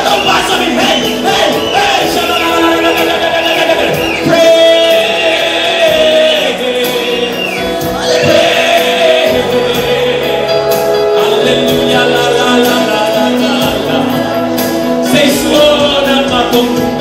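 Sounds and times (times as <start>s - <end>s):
instrumental backing: 0.0s - 17.0s
voices singing worship song: 0.0s - 17.0s.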